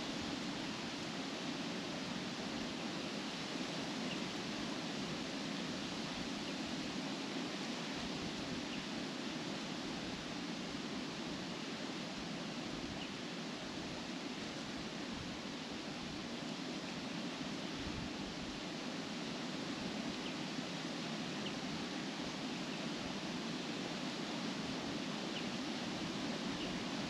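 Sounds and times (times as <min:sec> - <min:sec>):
wind rustling leaves: 0:00.0 - 0:27.0.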